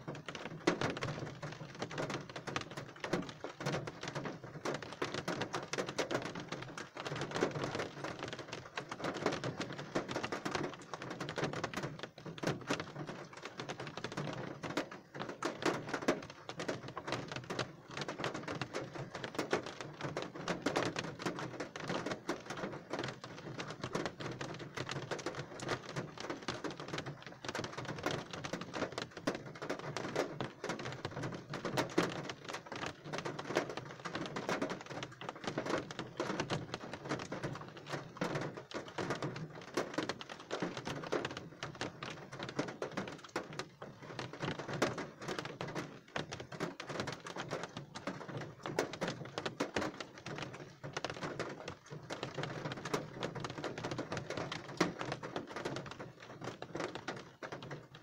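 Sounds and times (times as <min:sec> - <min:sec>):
rain drops tapping: 0:00.0 - 0:58.0
steady rain patter: 0:00.0 - 0:58.0.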